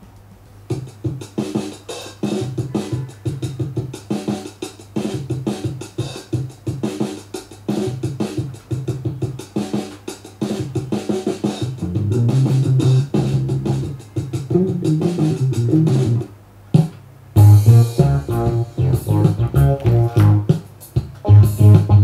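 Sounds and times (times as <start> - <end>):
music with drum beat: 0.2 - 22.0.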